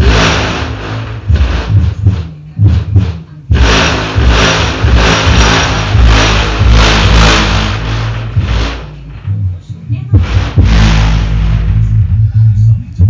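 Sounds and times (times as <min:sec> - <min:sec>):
bass-heavy music from car speakers: 0:00.0 - 0:13.0.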